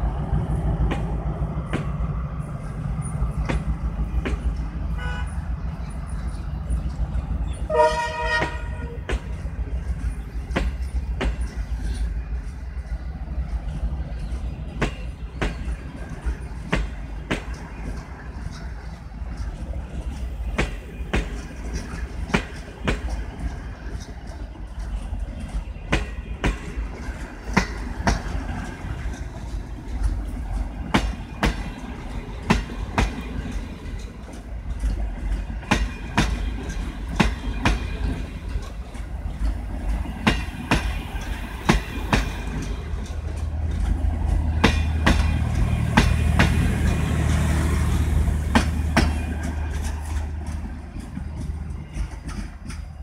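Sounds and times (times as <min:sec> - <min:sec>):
train rumble: 0:00.0 - 0:53.0
wheels clicking over rail joints: 0:00.6 - 0:53.0.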